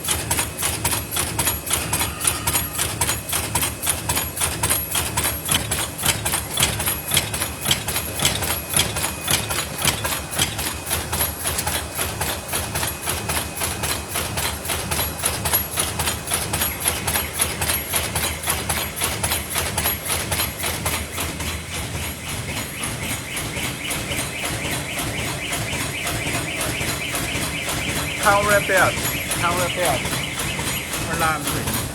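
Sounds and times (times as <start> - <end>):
machine clattering: 0.0 - 31.9.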